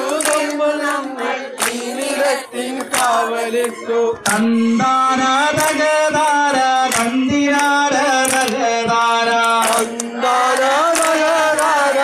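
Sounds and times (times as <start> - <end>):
hands clapping in time: 0.0 - 4.5, 5.4 - 12.0
women singing in chorus: 0.0 - 8.3, 9.7 - 12.0.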